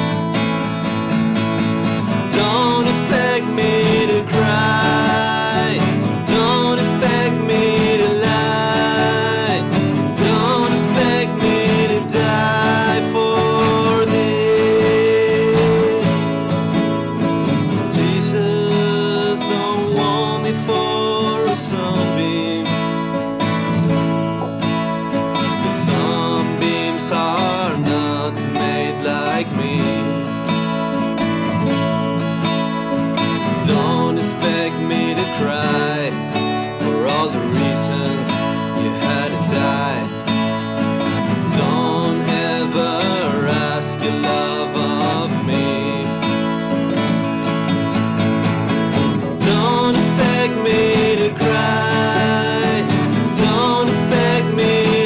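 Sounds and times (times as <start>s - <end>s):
acoustic guitars playing: 0.0s - 55.0s
man singing: 2.1s - 24.6s, 25.3s - 31.8s, 33.2s - 47.5s, 48.9s - 55.0s.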